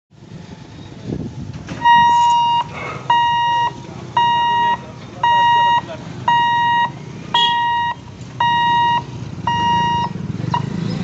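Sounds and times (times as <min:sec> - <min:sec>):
level crossing warning beeps: 0:01.8 - 0:10.8.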